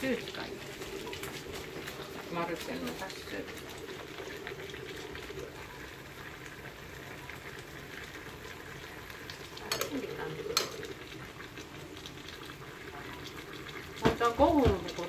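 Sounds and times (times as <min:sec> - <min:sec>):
pot bubbling and hissing: 0:00.0 - 0:15.0.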